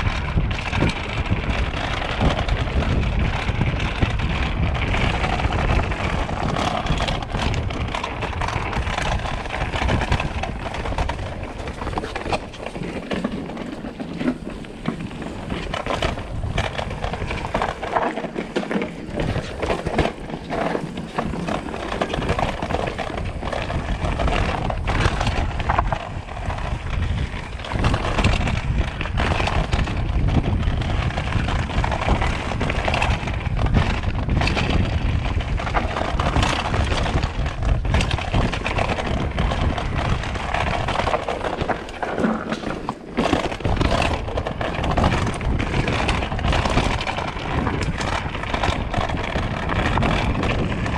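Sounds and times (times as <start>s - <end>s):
bike rattles and knocks: 0.0s - 50.9s
tyres rolling over dirt and rocks: 0.0s - 50.9s
wind rushing over microphone: 0.0s - 50.9s.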